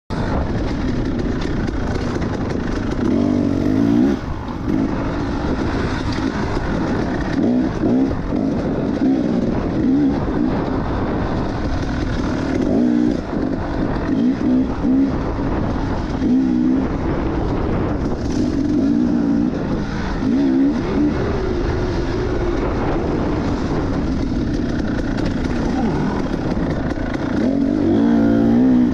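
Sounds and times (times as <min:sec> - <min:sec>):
dirt bike engine revving: 0:00.1 - 0:28.9.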